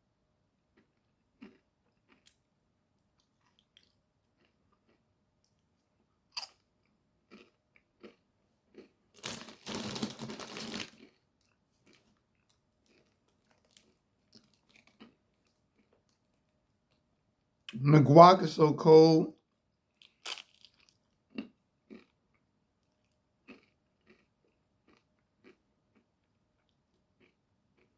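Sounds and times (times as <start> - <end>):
chewing crunchy chips: 0.7 - 17.1, 19.9 - 27.9.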